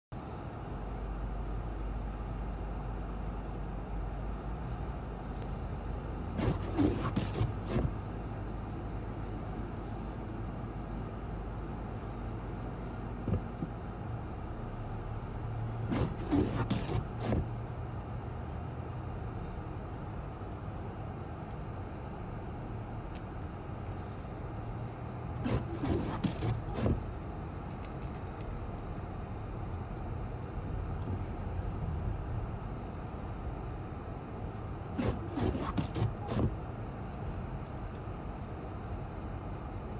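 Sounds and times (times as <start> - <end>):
car engine hum: 0.2 - 39.9.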